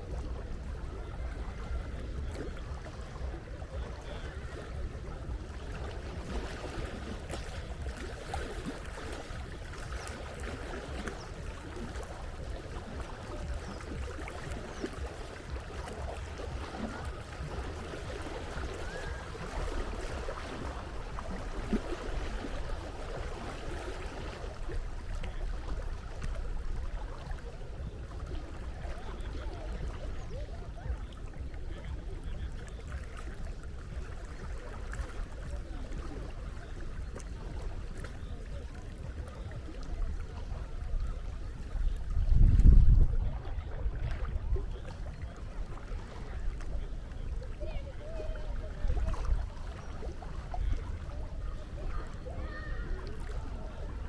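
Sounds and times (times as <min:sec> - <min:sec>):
sea water splashing: 0:00.0 - 0:54.0.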